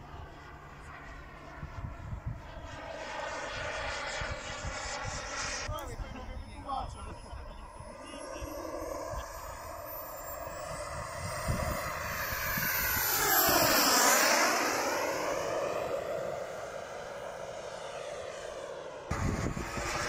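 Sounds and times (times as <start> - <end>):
model jet turbine whining: 0.0 - 20.0.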